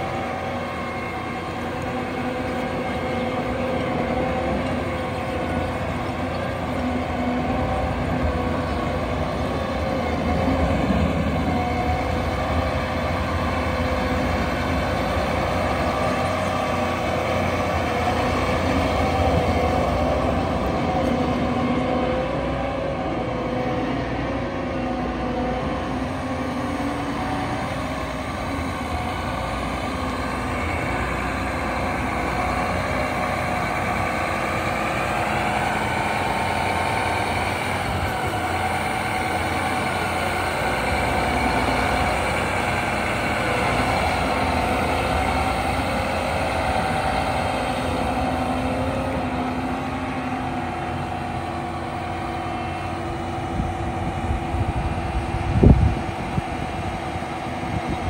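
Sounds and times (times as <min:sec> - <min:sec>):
diesel tractor engine running: 0:00.0 - 0:58.0
tractor driving over gravel: 0:00.0 - 0:58.0.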